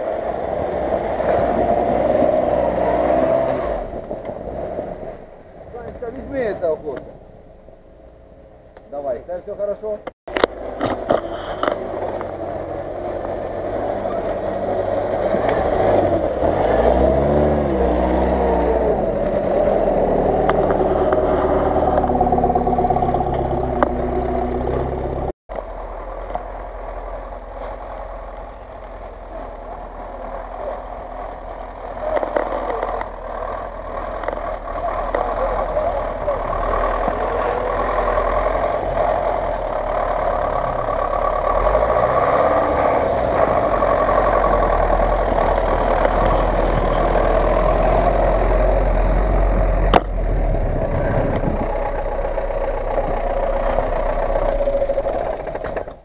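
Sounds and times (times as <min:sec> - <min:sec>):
off-road vehicle engine revving: 0:00.0 - 0:56.0
truck engine running under load: 0:10.3 - 0:56.0.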